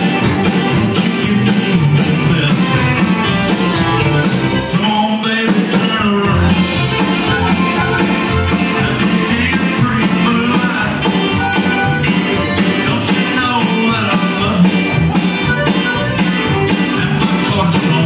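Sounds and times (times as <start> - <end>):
drum beat: 0.0 - 4.6, 5.6 - 18.0
electric guitar: 0.0 - 18.0
keyboard: 0.0 - 18.0.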